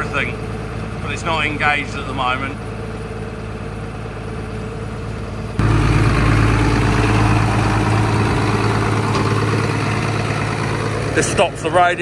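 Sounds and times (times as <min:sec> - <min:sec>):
harvester engine idling: 0:00.0 - 0:12.0.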